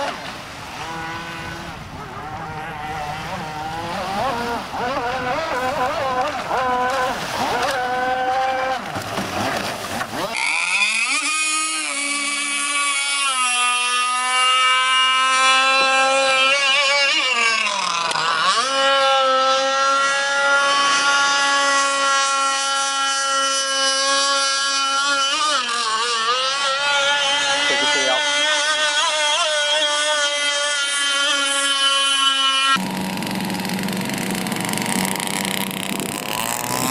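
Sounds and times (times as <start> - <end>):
toy speedboat motor whining: 0.0 - 36.9.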